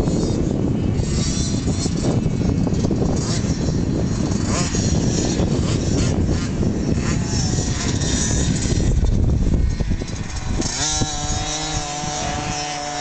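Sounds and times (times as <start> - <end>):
minibike engine buzzing: 0.0 - 13.0.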